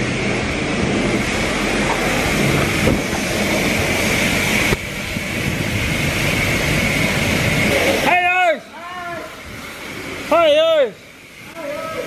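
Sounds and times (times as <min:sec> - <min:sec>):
pressure washer spraying water: 0:00.0 - 0:12.0.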